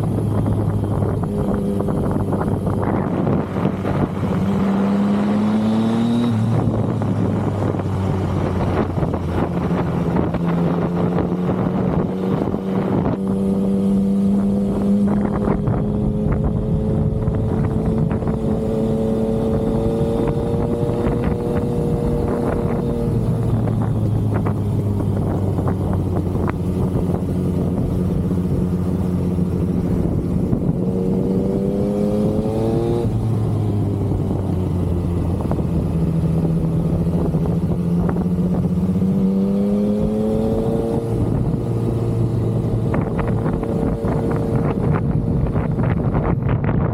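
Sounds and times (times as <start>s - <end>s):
motorcycle engine revving with upshifts: 0.0s - 46.9s.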